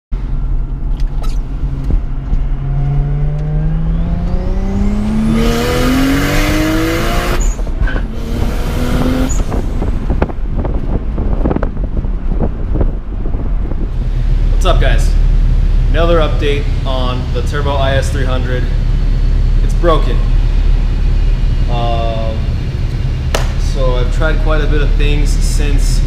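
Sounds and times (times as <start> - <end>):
car engine accelerating: 0.2 - 26.0.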